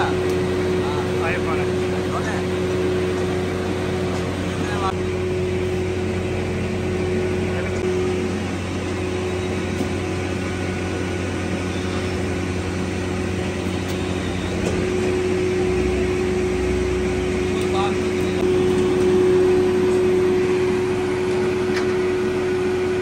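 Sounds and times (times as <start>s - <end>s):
air blower droning hum: 0.0s - 23.0s.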